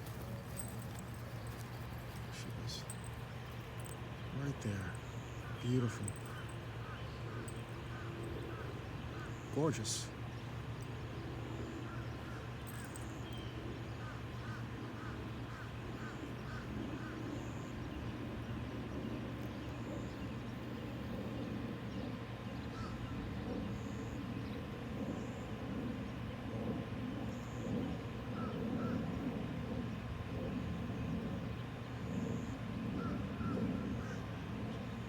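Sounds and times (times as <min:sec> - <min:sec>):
low outdoor hum: 0:00.0 - 0:35.0.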